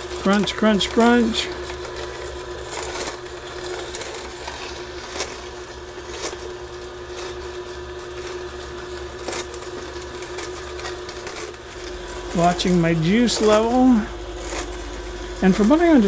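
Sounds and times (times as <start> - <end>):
celery cracking: 0.0 - 16.0
juicer motor hum: 0.0 - 16.0.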